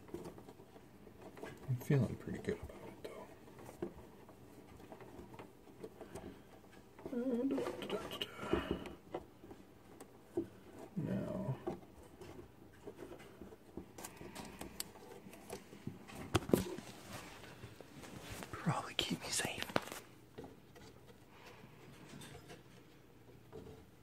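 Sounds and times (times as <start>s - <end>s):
soft rustling of wires: 0.0s - 24.0s.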